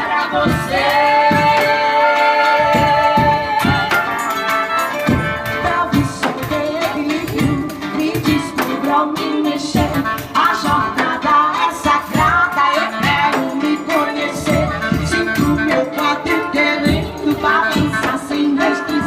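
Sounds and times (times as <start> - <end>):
hand percussion beat: 0.0 - 19.0
wind instruments: 0.0 - 19.0.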